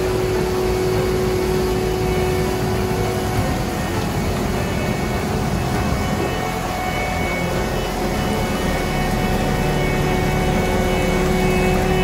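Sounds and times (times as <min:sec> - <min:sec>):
diesel engines rumbling: 0:00.0 - 0:12.0
steady whine: 0:00.0 - 0:12.0.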